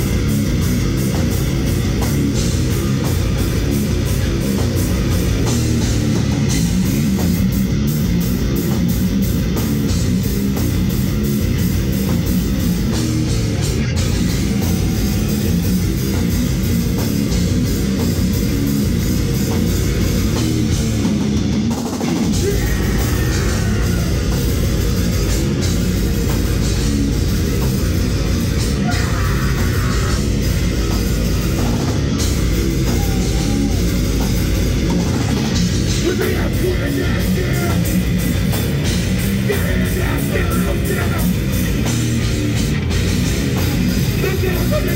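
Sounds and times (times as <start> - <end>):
distorted electric guitar: 0.0 - 44.9
pounding drum kit: 0.0 - 44.9.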